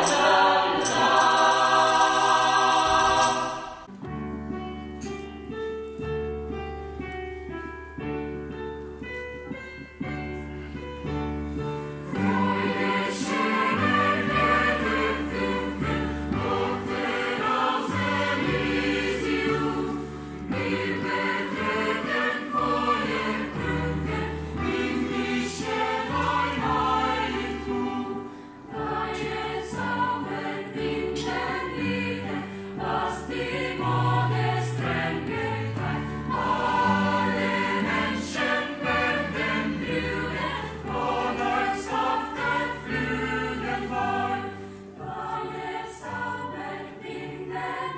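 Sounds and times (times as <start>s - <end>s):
mixed choir singing: 0.0s - 4.0s, 12.1s - 47.9s
low piano chords: 3.8s - 45.1s.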